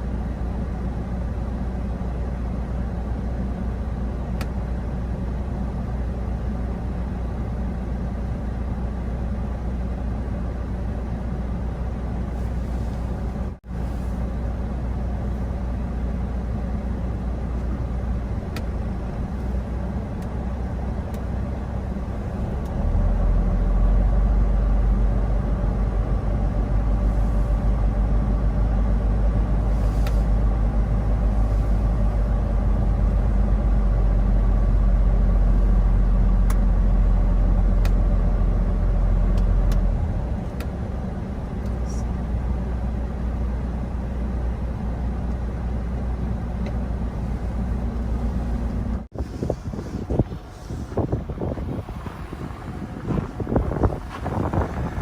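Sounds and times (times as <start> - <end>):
road noise: 0.0 - 55.0
truck engine rumble: 0.0 - 55.0.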